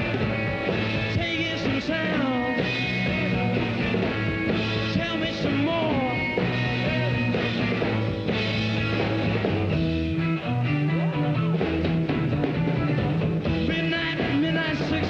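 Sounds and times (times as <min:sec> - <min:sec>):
drums: 0:00.0 - 0:15.0
electric guitar bending notes: 0:00.0 - 0:15.0
walking bass line: 0:00.0 - 0:15.0.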